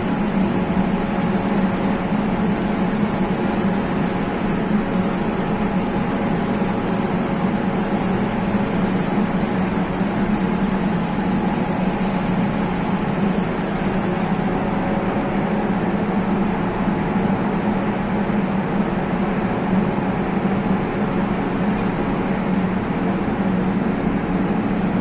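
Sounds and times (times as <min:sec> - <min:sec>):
steady mechanical drone: 0:00.0 - 0:25.0.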